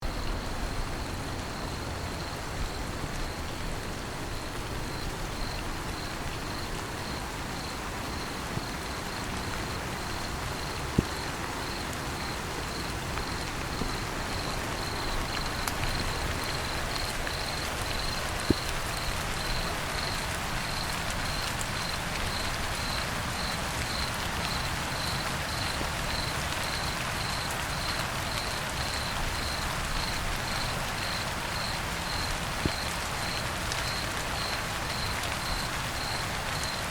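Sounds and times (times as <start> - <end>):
steady rain: 0.0 - 36.9
cricket chirping: 0.1 - 36.8.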